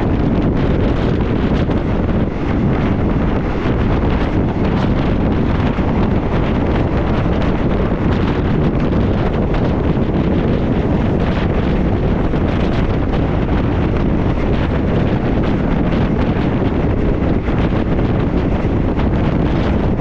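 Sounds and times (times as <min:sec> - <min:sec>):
train running noise: 0:00.0 - 0:20.0
wind buffeting microphone: 0:00.0 - 0:20.0.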